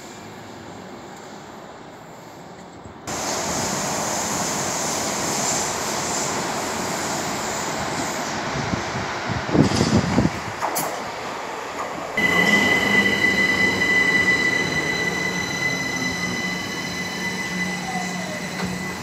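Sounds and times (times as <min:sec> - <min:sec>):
train rushing through station: 0:00.0 - 0:19.0.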